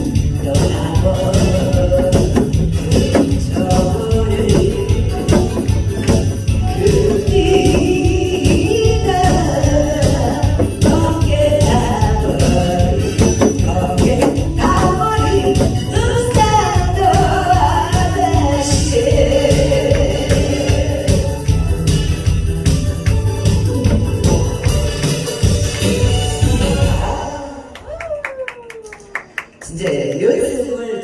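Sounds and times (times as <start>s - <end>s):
song with driving beat: 0.0s - 27.4s.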